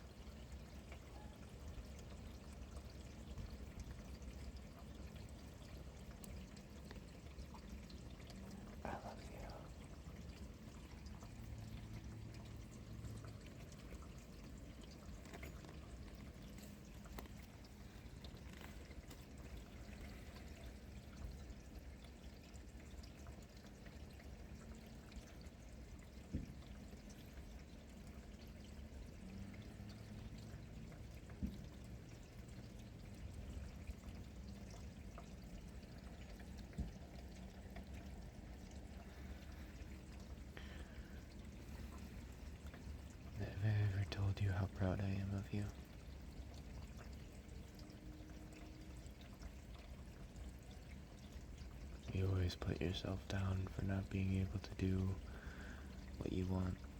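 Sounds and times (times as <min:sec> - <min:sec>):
water running into a gutter: 0:00.0 - 0:56.9.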